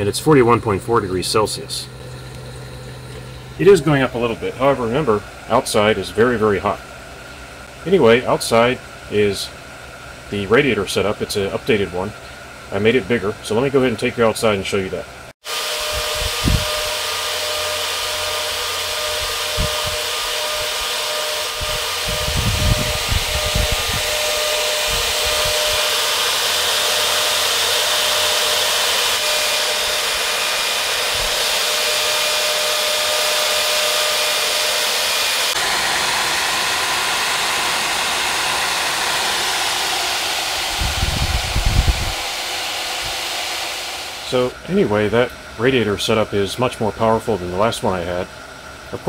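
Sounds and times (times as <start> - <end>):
fans blowing air: 0.0 - 49.0.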